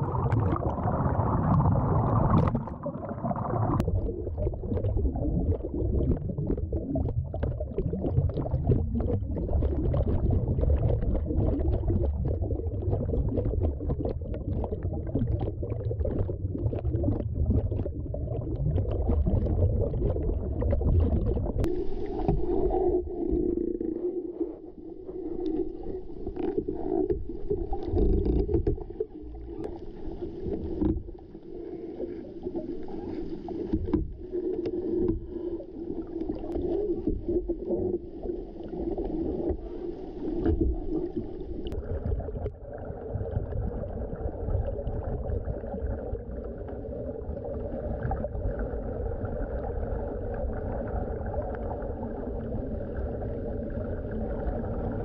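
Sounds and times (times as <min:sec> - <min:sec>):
low machine drone underwater: 0:00.0 - 0:55.0.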